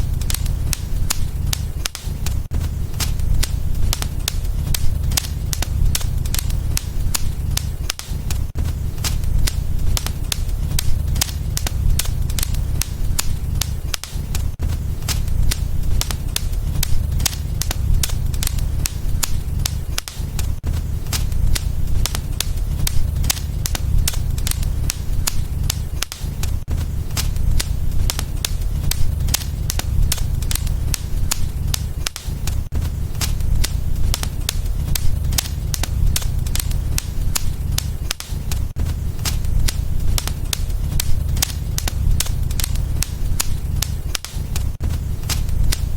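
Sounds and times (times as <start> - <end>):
low rumble of burning logs: 0.0 - 45.9
wood fire crackling: 0.0 - 45.9.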